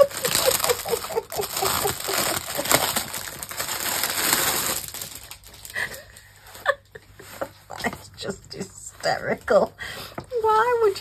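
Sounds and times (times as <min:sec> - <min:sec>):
plastic wrapping crinkling: 0:00.0 - 0:09.7.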